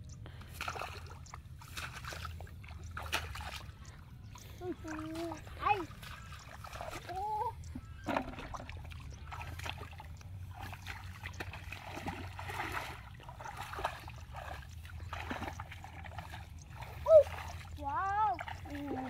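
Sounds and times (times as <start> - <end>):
feet wading through water and mud: 0.0 - 19.0.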